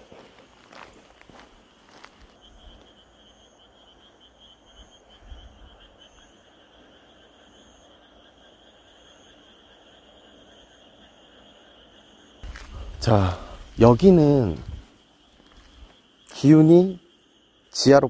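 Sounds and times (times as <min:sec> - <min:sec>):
higher insect calls: 0:00.0 - 0:18.0
insects trilling: 0:00.0 - 0:18.0.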